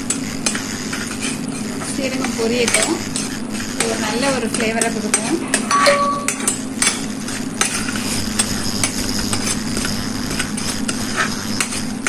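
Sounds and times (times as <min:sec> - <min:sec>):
seeds frying in butter: 0:00.0 - 0:05.6, 0:06.4 - 0:12.0
cooktop low hum: 0:00.0 - 0:12.0.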